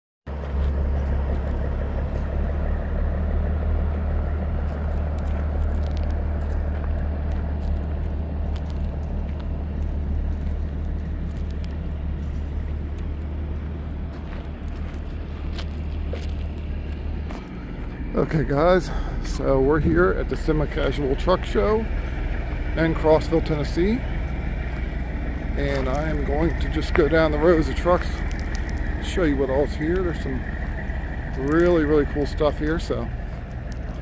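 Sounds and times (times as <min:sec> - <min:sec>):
vehicle engine rumbling: 0:00.3 - 0:34.0.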